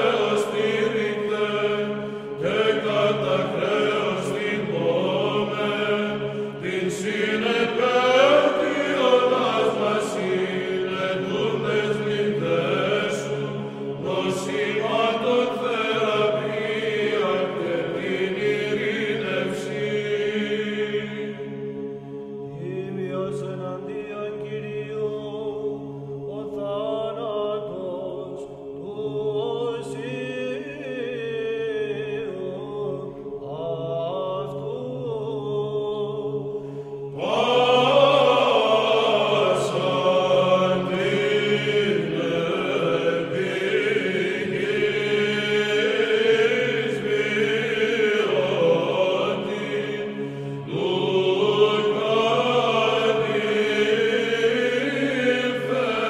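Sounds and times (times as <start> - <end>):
choir chanting: 0.0 - 56.0.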